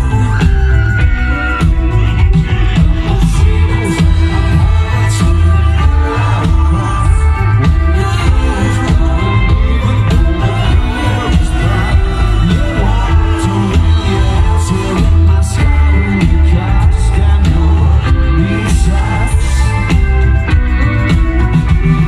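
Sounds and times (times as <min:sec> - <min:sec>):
live rock band playing: 0:00.0 - 0:22.0
man singing: 0:00.0 - 0:22.0.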